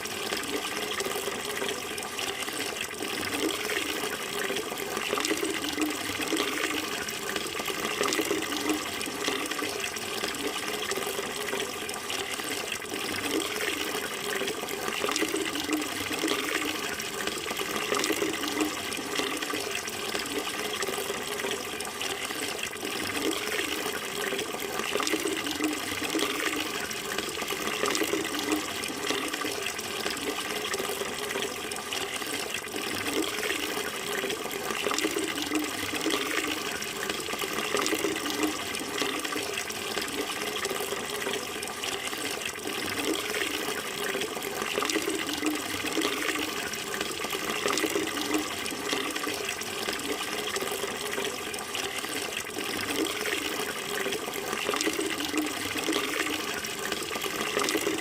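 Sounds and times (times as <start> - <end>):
flowing water: 0.0 - 58.0.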